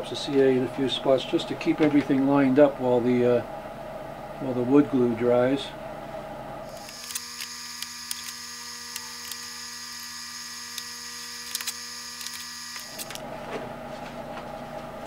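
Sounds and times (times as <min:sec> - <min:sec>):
electrical hum and whine: 0:00.0 - 0:15.0.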